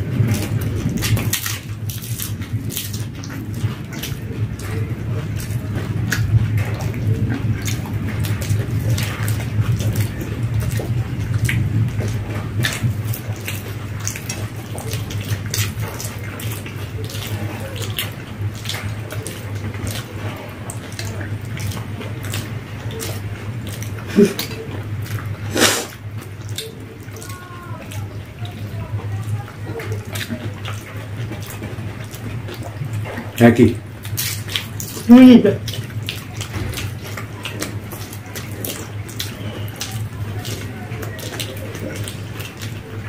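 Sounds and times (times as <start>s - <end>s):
steady low hum: 0.0s - 43.0s
wet chewing and mouth-smacking: 0.0s - 43.0s.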